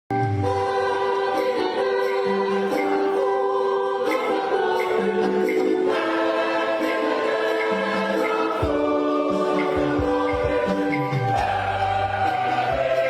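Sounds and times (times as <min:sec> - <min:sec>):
choir singing: 0:00.4 - 0:13.0.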